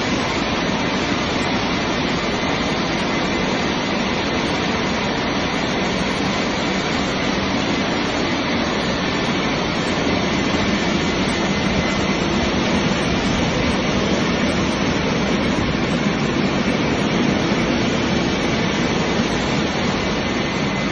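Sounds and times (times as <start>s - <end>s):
car wash spray and dryers rushing: 0.0s - 20.9s.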